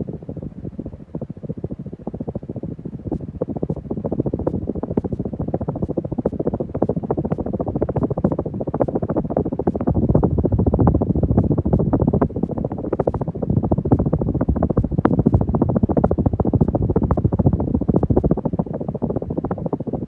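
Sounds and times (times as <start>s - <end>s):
ceiling fan draft buffeting microphone: 0.0s - 20.0s.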